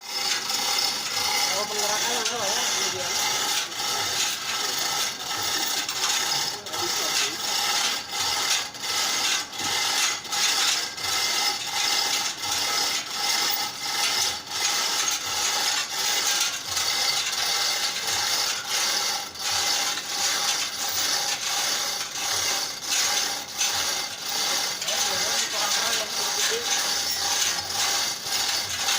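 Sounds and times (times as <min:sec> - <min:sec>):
chain hoist rasping and clicking: 0:00.0 - 0:28.9.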